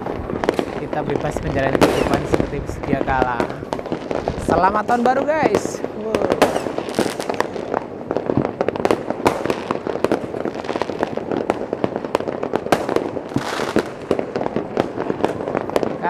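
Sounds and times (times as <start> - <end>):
crackling burst: 0.0 - 16.0
distant fireworks and firecrackers: 0.0 - 16.0.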